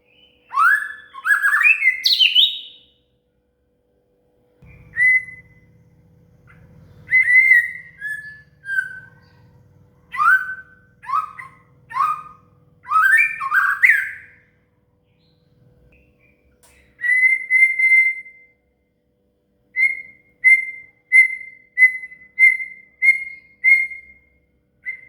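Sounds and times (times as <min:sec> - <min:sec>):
bird singing whistled notes: 0:00.0 - 0:03.0, 0:04.6 - 0:05.8, 0:06.5 - 0:14.5, 0:15.2 - 0:18.7, 0:19.8 - 0:25.0.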